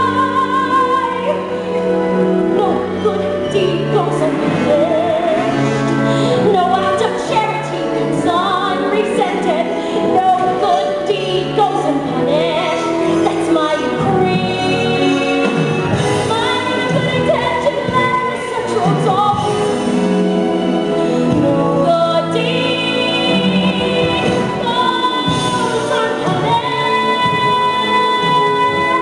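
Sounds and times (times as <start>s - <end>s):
woman singing with vibrato: 0.0s - 19.8s, 21.4s - 29.0s
live instrumental accompaniment: 0.0s - 29.0s.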